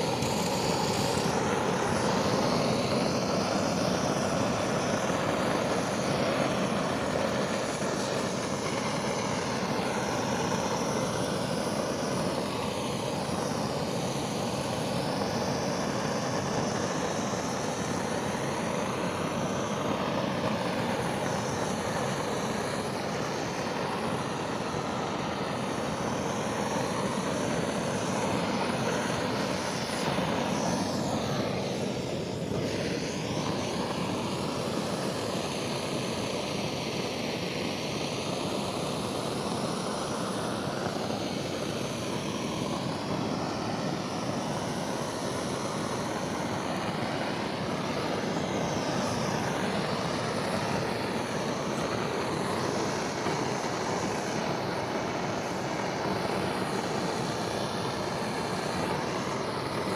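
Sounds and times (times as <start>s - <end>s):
gas torch hissing: 0.0s - 59.9s.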